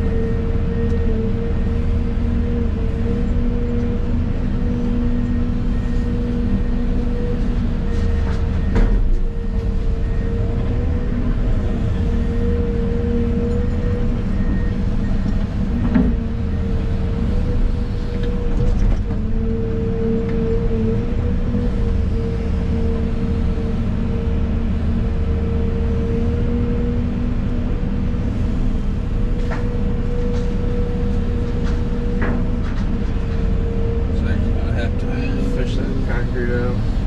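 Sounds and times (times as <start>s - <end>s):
excavator engine rumble: 0.0s - 37.0s
hydraulic whine: 0.0s - 37.0s.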